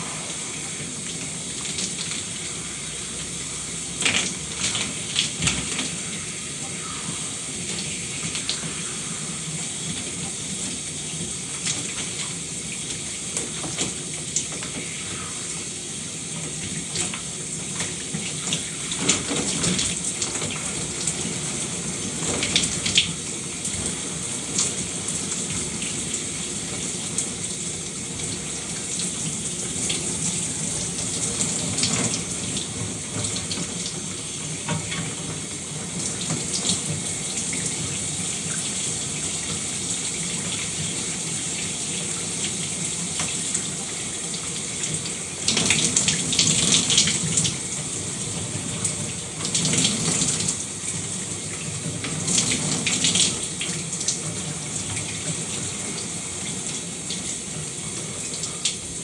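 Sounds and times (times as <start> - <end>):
shower water spraying: 0.0 - 59.0.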